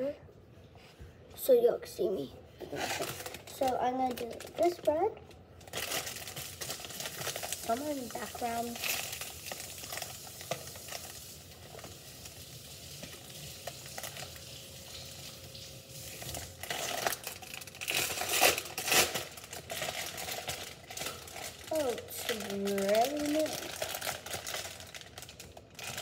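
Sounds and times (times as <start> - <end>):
plastic packaging crinkling: 2.7 - 26.0.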